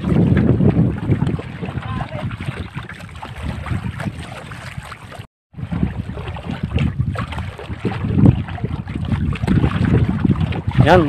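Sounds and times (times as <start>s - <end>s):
water washing past boat: 0.0s - 11.0s
wind buffeting microphone: 0.0s - 11.0s.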